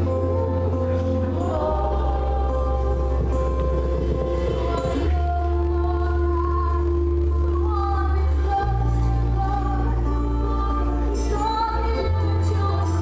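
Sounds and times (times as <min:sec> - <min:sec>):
held low chords: 0:00.0 - 0:13.0
woman singing: 0:00.0 - 0:13.0.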